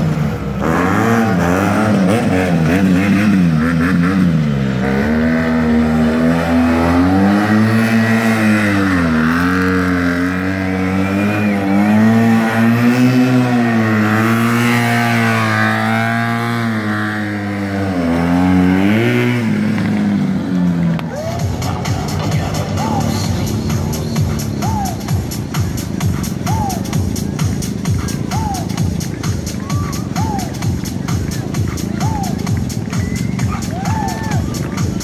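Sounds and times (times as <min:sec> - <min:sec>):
motorcycle engine revving: 0:00.0 - 0:29.4.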